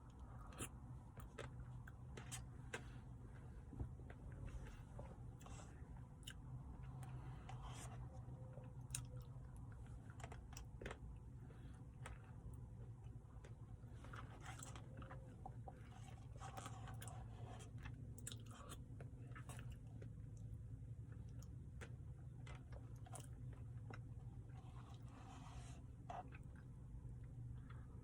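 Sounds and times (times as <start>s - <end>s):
person chewing ice cream: 0.0s - 28.0s
steady low hum: 0.0s - 28.0s.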